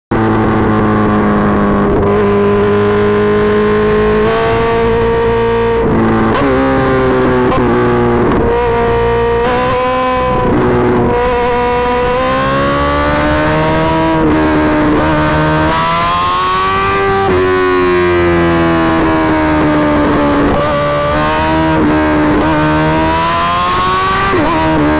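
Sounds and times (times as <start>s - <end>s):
motorcycle engine revving high: 0.1s - 24.9s.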